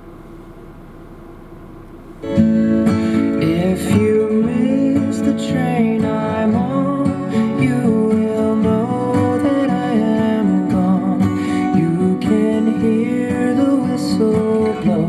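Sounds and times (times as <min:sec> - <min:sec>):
strummed acoustic guitar music: 0:02.2 - 0:15.0.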